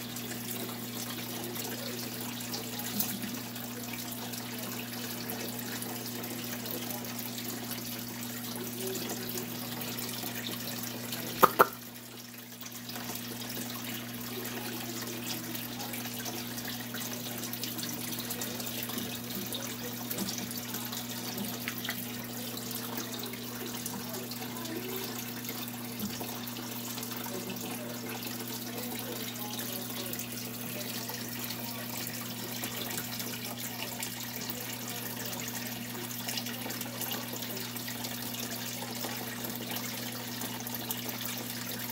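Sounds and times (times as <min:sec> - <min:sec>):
water splashing in aquarium filter: 0:00.0 - 0:41.9.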